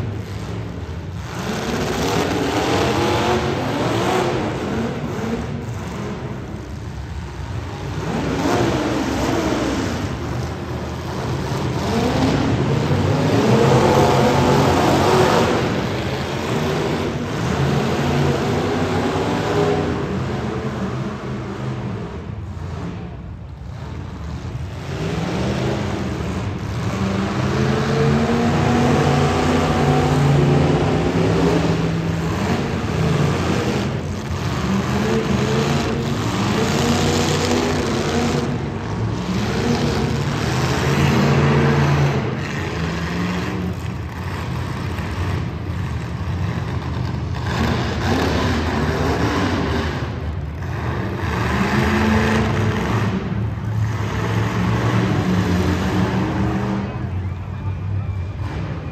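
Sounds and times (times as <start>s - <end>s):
car engines revving hard: 0.0s - 58.9s.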